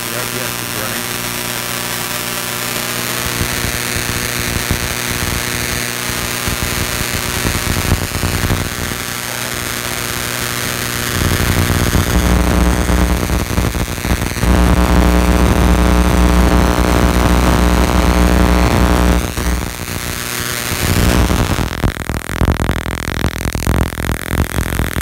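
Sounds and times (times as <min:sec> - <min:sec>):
electrical hum and hiss: 0:00.0 - 0:24.2.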